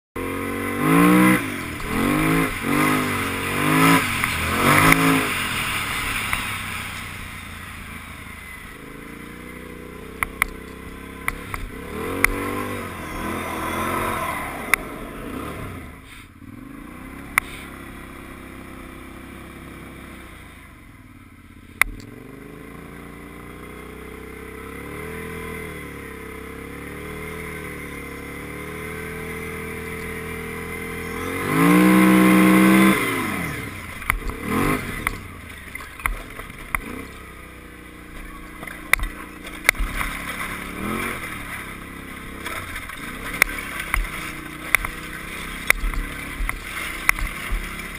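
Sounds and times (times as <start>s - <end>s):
quad engine revving: 0.2s - 20.8s, 21.8s - 47.9s.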